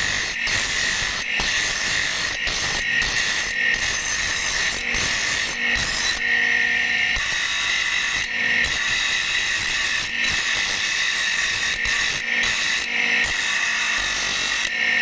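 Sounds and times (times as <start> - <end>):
grinder wheel grinding steel: 0.0 - 15.0.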